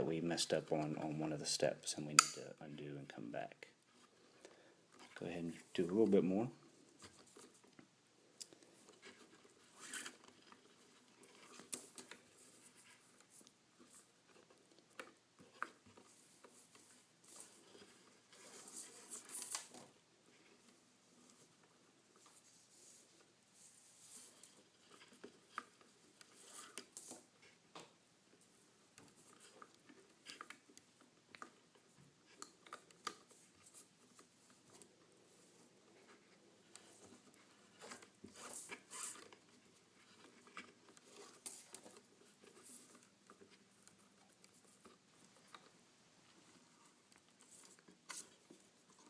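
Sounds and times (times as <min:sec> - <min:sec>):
cord rustling and scraping: 0:03.7 - 0:49.0.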